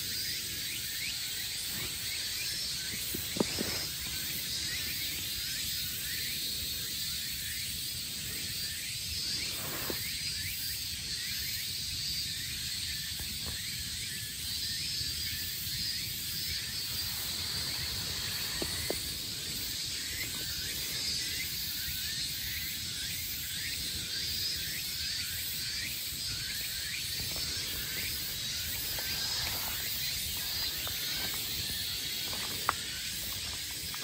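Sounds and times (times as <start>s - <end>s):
insects buzzing and chirping: 0.0s - 34.0s.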